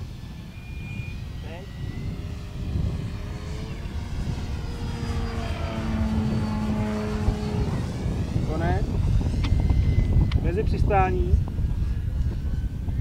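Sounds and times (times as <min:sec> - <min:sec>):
electric motor and propeller whine: 0:00.0 - 0:13.0
wind rumble on microphone: 0:00.0 - 0:13.0.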